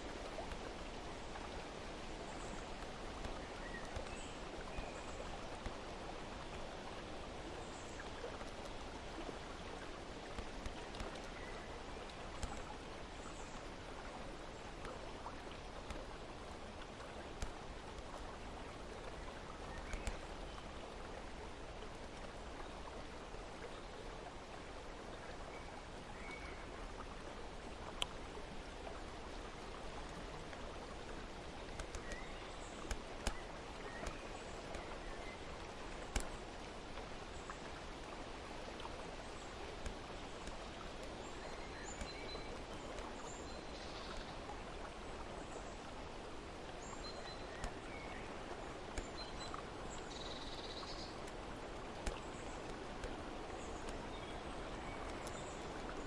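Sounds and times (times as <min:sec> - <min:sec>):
light ticks: 0:00.0 - 0:21.1, 0:21.8 - 0:23.0, 0:25.2 - 0:46.0, 0:46.8 - 0:56.0
rushing water: 0:00.0 - 0:56.0.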